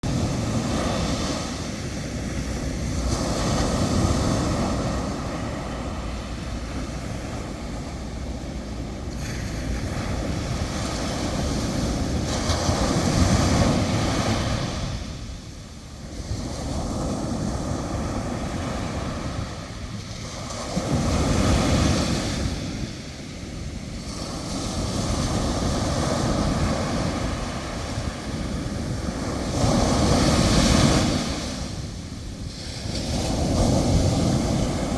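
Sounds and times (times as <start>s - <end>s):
waves breaking: 0.0s - 34.9s
wind rumbling on microphone: 0.0s - 34.9s.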